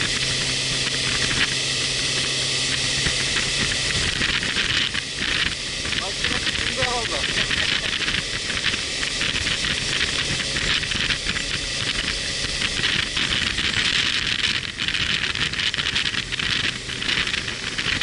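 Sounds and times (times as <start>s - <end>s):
motorcycle engine and road rumble: 0.0s - 18.0s
wind rush over microphone: 0.0s - 18.0s.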